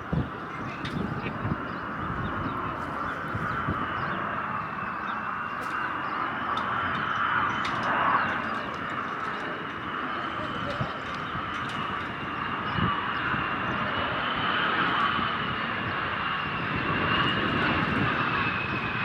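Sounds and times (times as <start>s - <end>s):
jet airliner engines whining: 0.0s - 19.0s.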